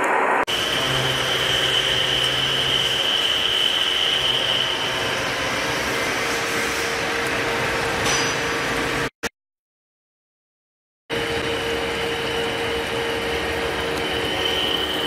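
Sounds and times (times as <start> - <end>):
high machine whine: 0.0 - 9.1, 11.1 - 15.0
lathe cutting metal: 0.5 - 9.1, 11.1 - 15.0.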